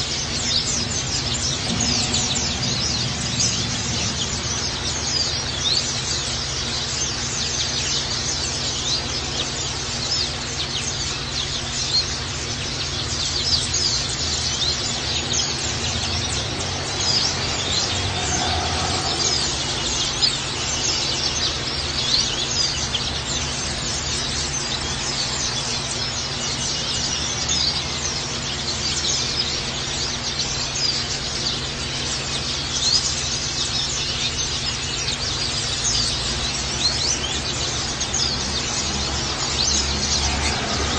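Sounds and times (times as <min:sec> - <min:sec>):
birds chirping rapidly: 0:00.0 - 0:40.9
low background hum: 0:00.0 - 0:40.9.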